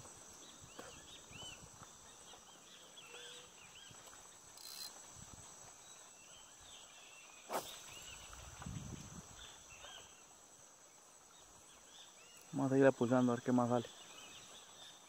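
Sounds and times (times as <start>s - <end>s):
insect chirping calls: 0.0s - 15.0s
insect drone: 0.0s - 15.0s.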